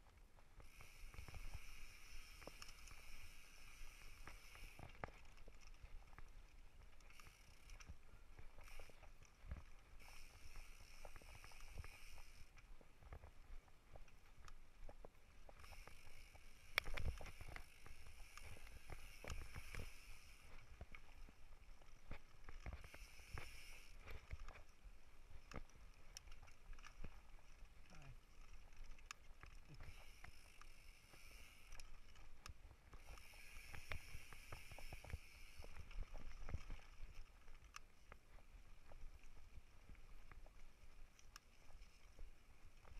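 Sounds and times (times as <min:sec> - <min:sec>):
mountain bike rattling on dirt trail: 0:00.0 - 0:42.9.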